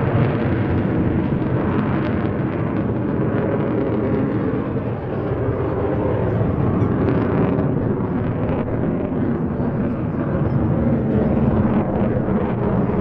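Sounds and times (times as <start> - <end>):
jet engine rumble in flight: 0.0 - 13.0.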